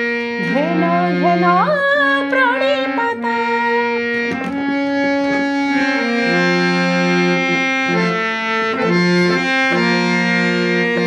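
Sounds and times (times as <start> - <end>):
harmonium sustained notes: 0.0 - 11.0.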